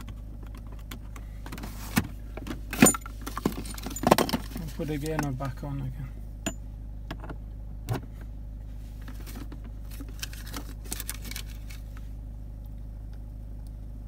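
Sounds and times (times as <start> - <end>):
car engine idling hum: 0.0 - 14.0.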